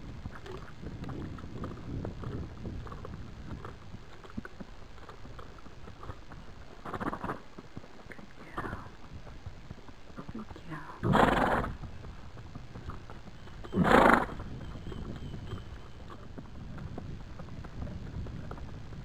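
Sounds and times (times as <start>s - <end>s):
wind on microphone: 0.0s - 7.4s, 10.3s - 19.0s.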